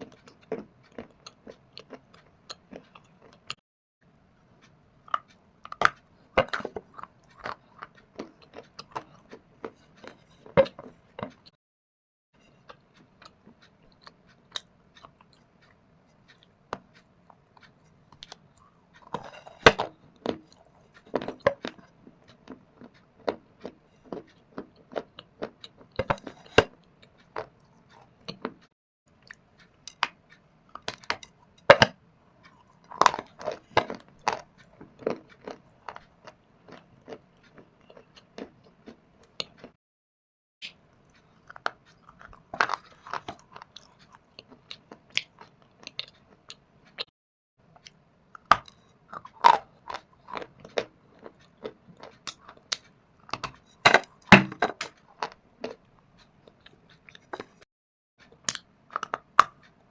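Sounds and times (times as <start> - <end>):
chewing shale and clay: 0.0 - 3.6, 4.2 - 11.6, 12.4 - 39.8, 40.6 - 47.1, 47.7 - 59.9.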